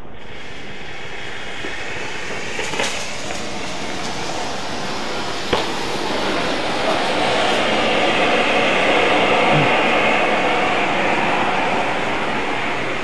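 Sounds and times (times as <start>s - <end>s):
spark fountain rushing hiss: 0.2s - 10.6s.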